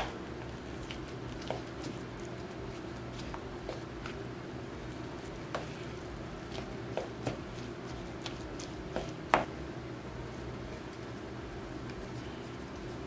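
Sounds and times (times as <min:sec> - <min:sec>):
soft squishing of mashing: 0:00.0 - 0:13.0
steady low hum: 0:00.0 - 0:13.0.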